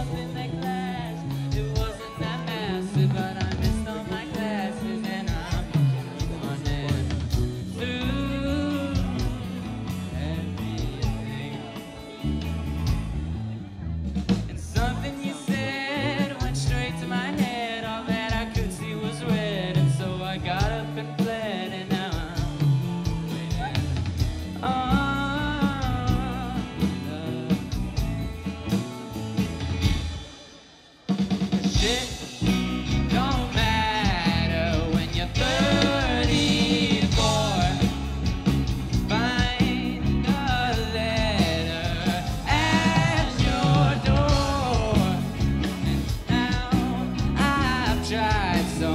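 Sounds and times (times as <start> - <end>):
person singing lead vocal: 0.0 - 13.6, 14.3 - 28.2, 30.0 - 48.9
live rock band: 0.0 - 48.9.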